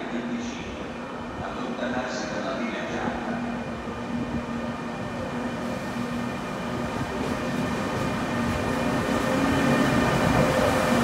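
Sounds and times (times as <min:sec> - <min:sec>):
electric locomotive passing: 0:00.0 - 0:11.0.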